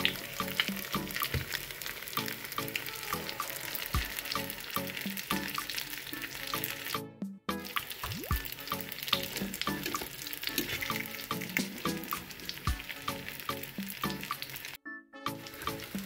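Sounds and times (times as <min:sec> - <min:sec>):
cutlets sizzling in a frying pan: 0:00.0 - 0:06.9, 0:07.9 - 0:14.8
background music with steady beat: 0:00.0 - 0:16.0.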